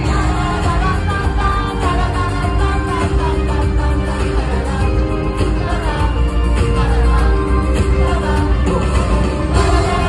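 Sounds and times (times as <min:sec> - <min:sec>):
live rock band playing: 0:00.0 - 0:10.0
person singing: 0:00.0 - 0:10.0.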